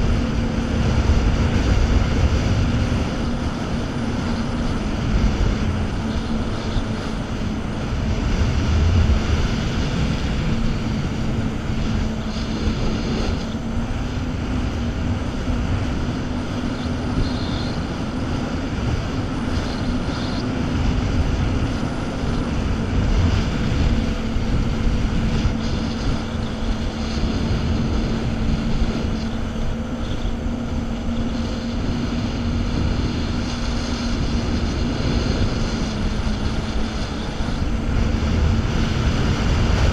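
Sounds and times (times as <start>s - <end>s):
jet ski engine running: 0.0s - 39.9s
wind buffeting microphone: 0.0s - 39.9s.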